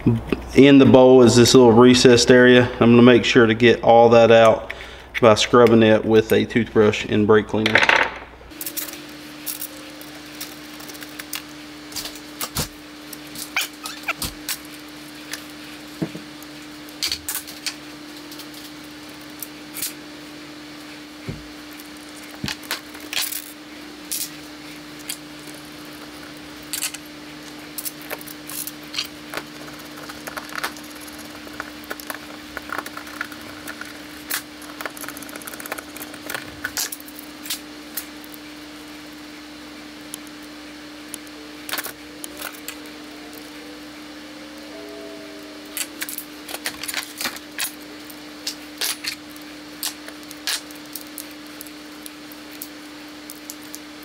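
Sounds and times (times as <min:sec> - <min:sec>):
low hum: 0:00.0 - 0:53.8.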